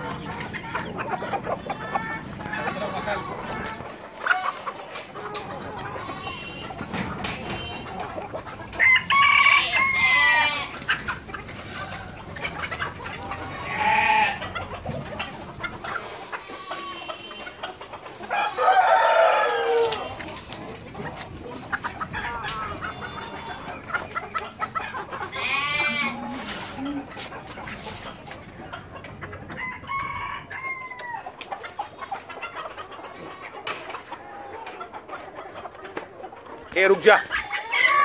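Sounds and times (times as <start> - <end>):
roosters crowing: 0.0 - 15.2, 15.8 - 20.5, 22.1 - 23.9, 25.0 - 28.1, 29.3 - 34.8, 36.9 - 38.0
chickens clucking: 0.0 - 38.0.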